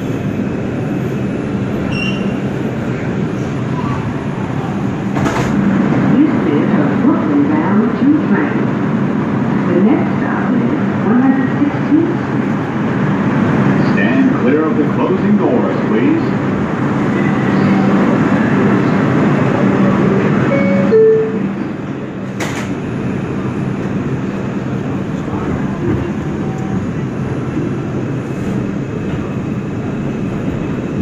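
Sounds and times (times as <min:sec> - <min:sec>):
subway train hum: 0:00.0 - 0:31.0.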